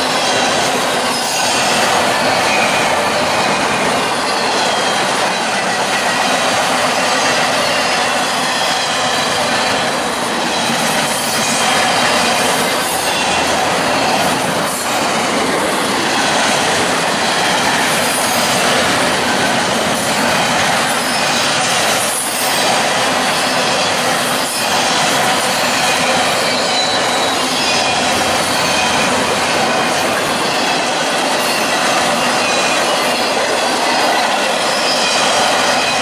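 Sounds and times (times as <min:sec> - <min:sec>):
clickety-clack over rail joints: 0:00.0 - 0:36.0
train wheels rumbling on rail: 0:00.0 - 0:36.0.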